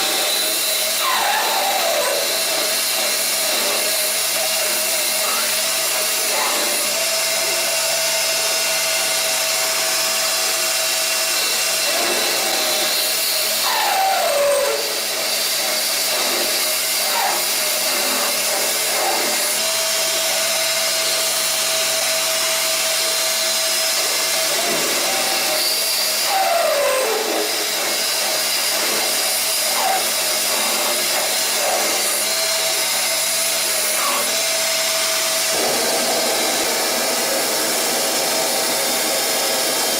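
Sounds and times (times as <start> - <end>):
lathe whirring and hissing: 0.0 - 39.9.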